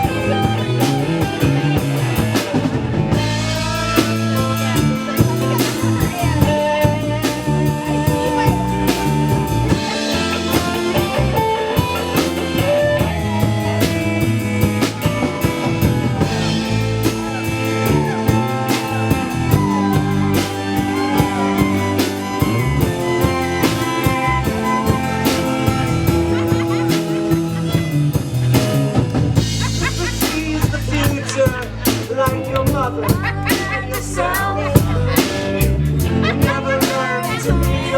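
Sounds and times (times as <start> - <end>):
bass line: 0.0 - 37.9
drum kit steady beat: 0.0 - 37.9
electric guitar lead lines: 0.0 - 37.9.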